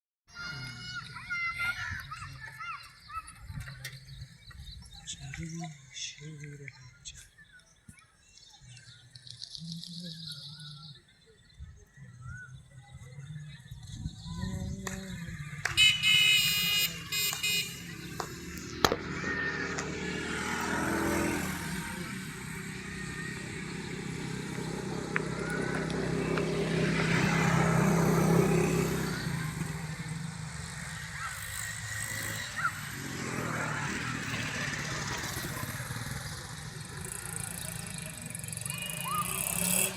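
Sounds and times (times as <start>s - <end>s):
vehicles passing: 0.3s - 39.9s.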